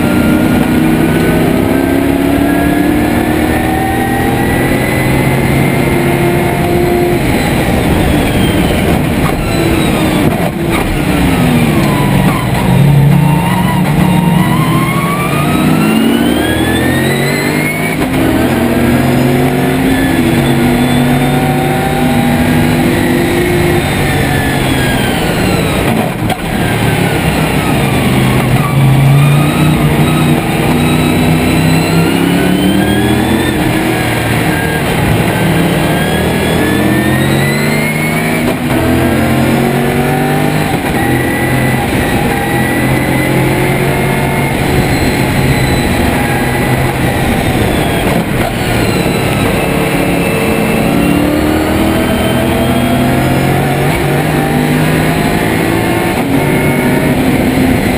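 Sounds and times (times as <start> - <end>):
race car engine revving: 0.0 - 57.9.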